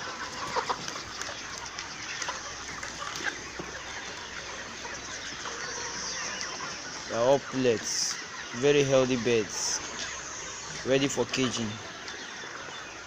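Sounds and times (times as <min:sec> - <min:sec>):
chickens chattering: 0:00.0 - 0:13.0.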